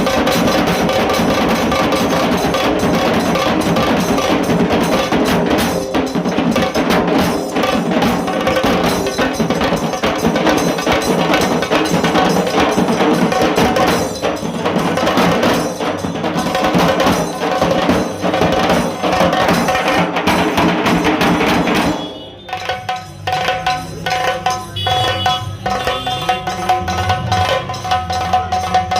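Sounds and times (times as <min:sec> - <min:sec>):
drum band playing fast rhythm: 0:00.0 - 0:28.9.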